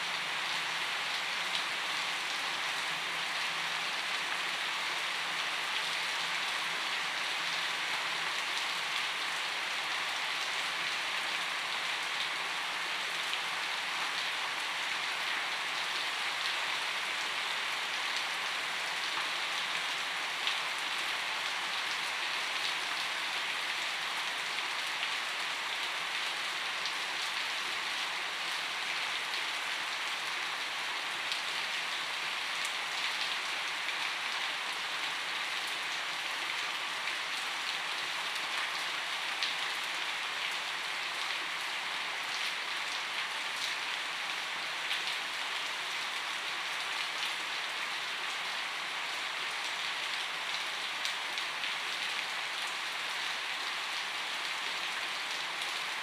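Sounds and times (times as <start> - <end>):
gentle rain hiss: 0.0 - 56.0.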